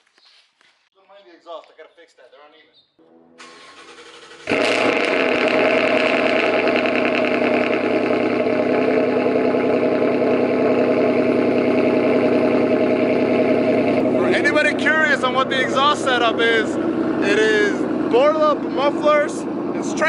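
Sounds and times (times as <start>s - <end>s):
car engine idling: 3.4s - 20.0s
engine cranking: 3.4s - 20.0s.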